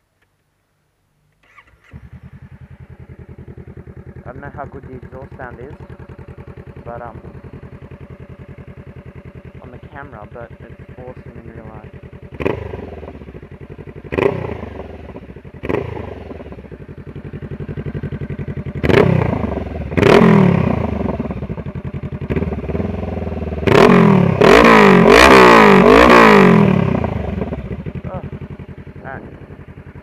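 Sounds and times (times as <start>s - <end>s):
motorcycle engine revving: 1.4s - 30.0s.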